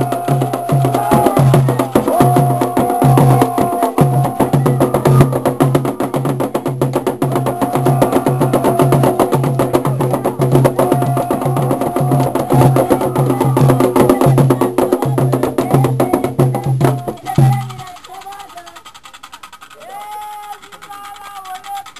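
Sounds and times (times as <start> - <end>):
fast clicking percussion: 0.0 - 21.9
low drum beating: 0.0 - 21.9
voices singing a chant: 0.0 - 21.9.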